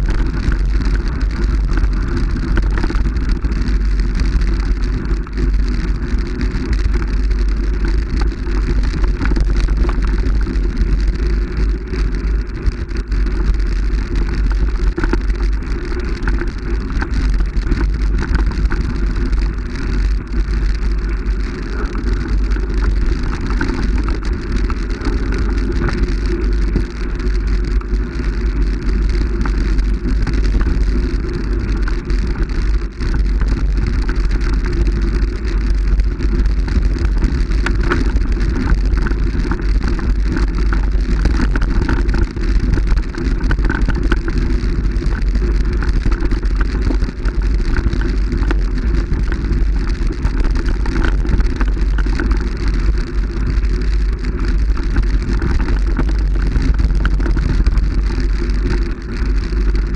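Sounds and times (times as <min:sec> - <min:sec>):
rough crackling noise: 0:00.0 - 0:59.9
wind rumble on microphone: 0:00.0 - 0:59.9.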